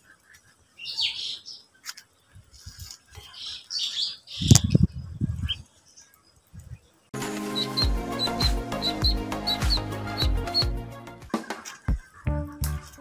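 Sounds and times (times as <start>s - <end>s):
ducklings peeping: 0.0s - 12.4s.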